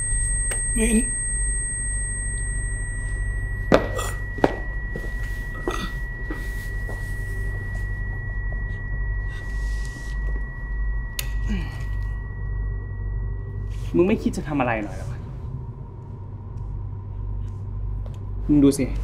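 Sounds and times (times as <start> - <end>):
high ringing tone: 0.0 - 18.6
low hum: 0.0 - 19.0.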